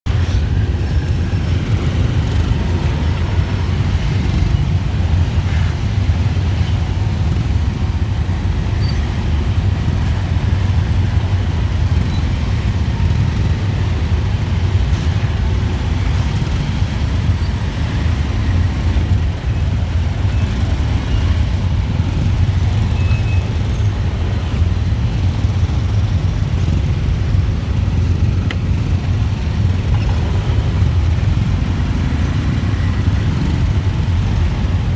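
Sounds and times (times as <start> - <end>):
dense street traffic rumble: 0.0 - 34.9.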